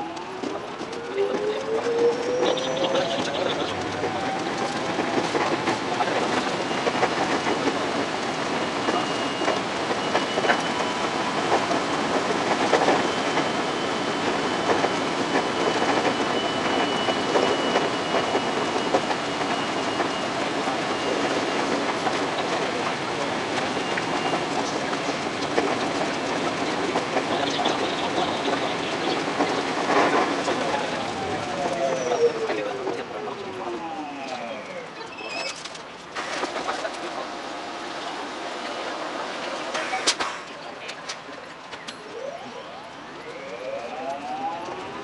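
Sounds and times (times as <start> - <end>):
wheels clicking over rail joints: 0.0 - 37.3
train rolling noise: 0.0 - 45.0.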